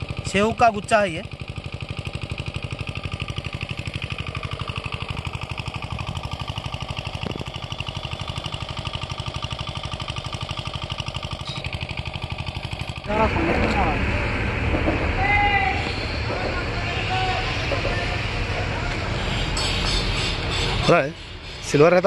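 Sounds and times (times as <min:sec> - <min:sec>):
small engine chugging: 0:00.0 - 0:22.0.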